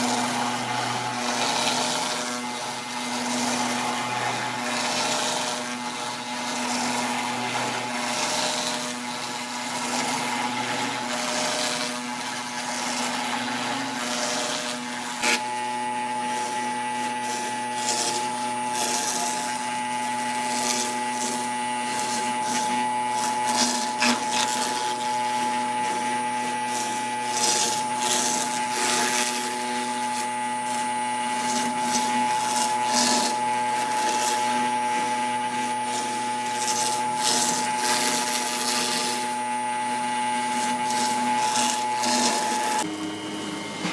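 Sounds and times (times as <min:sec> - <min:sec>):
router spindle whine: 0:00.0 - 0:43.9.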